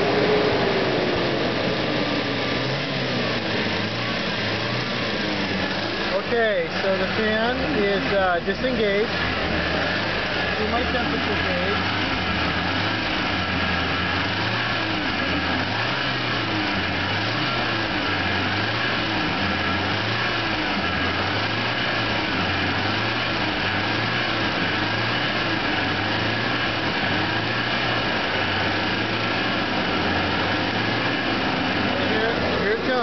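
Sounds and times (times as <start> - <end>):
van engine running: 0.0 - 33.0.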